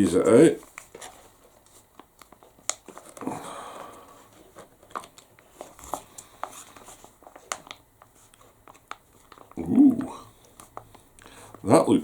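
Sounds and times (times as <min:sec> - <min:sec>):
foil pouch crinkling: 0:00.5 - 0:11.9.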